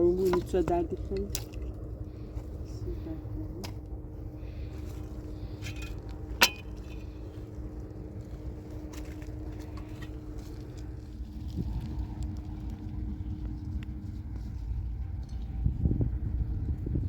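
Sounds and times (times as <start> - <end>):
faint hum: 0.0 - 17.0
low rumble: 0.0 - 17.0.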